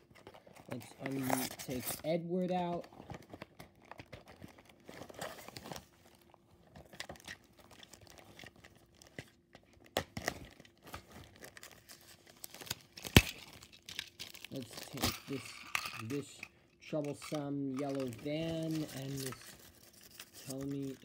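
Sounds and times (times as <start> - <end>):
cardboard packaging handled: 0.0 - 16.3, 16.9 - 21.0
plastic wrapping crinkling: 0.0 - 21.0.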